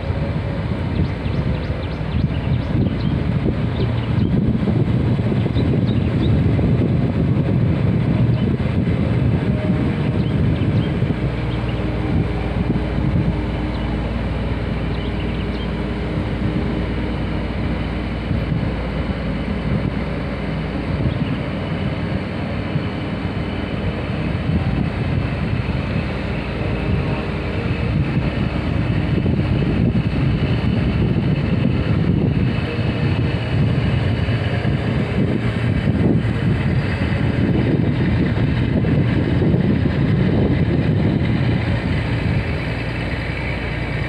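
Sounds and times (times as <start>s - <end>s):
boat engine droning: 0.0s - 44.0s
wind on microphone: 0.0s - 44.0s.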